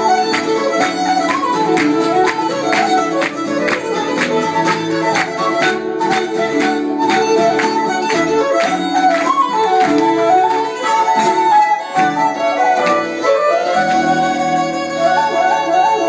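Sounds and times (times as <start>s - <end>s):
plucked string accompaniment: 0.0s - 16.0s
traditional folk band playing: 0.0s - 16.0s.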